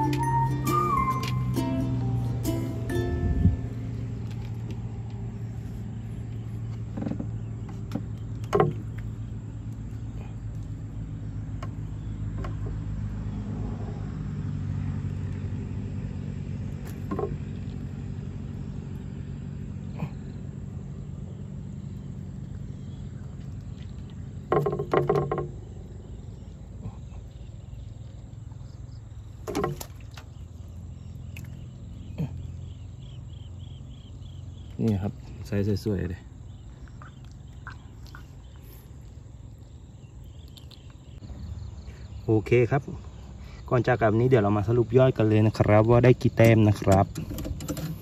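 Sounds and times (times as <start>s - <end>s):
engine humming low drone: 0.0s - 48.0s.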